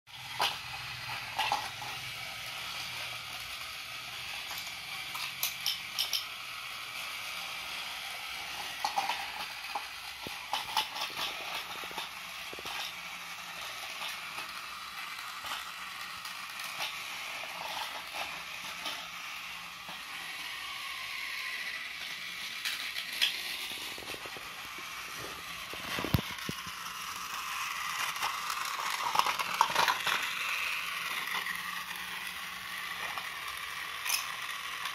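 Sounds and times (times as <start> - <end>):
toy train motor whirring: 0.1 - 34.9.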